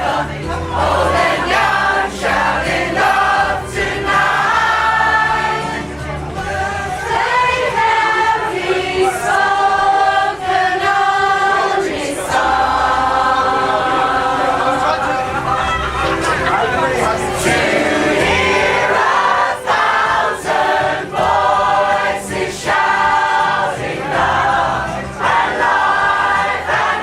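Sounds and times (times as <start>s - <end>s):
musical accompaniment: 0.0s - 27.0s
pop choir singing in harmony: 0.0s - 27.0s.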